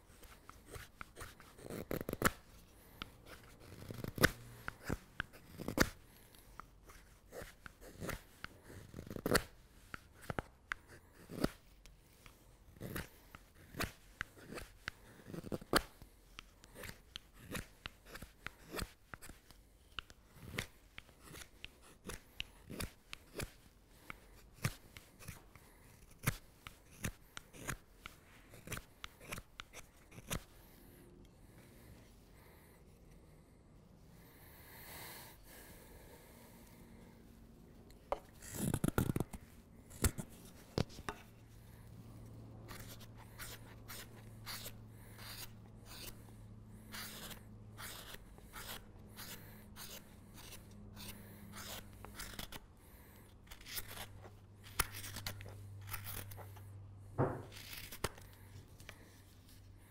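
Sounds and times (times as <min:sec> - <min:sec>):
knife carving wood: 0:00.0 - 0:32.6, 0:37.9 - 0:59.6.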